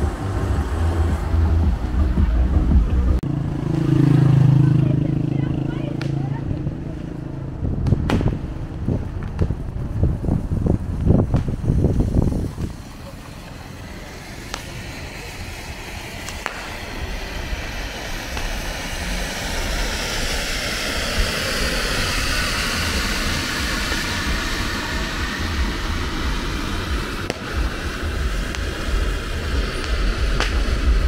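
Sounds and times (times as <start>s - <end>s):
steady low rumble: 0.0s - 31.0s
vehicle passing by: 0.0s - 31.0s.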